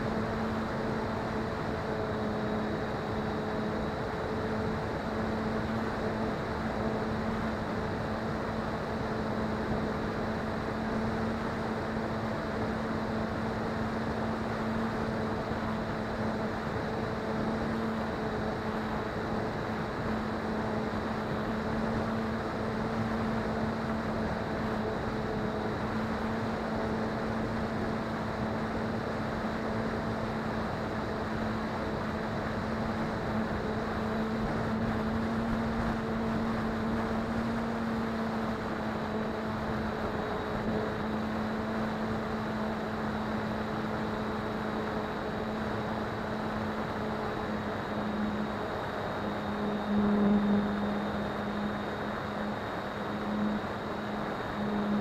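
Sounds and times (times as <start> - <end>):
model plane motor humming: 0.0 - 55.0.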